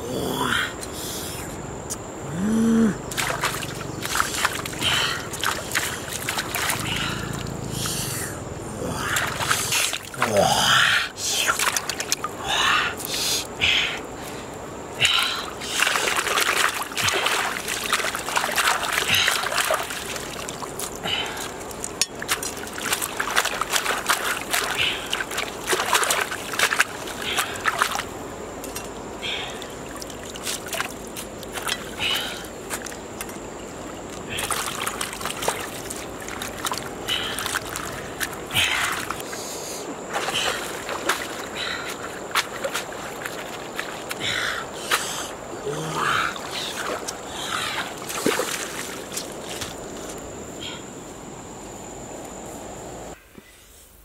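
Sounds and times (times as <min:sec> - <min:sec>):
water splashing and sloshing: 0:02.9 - 0:51.2.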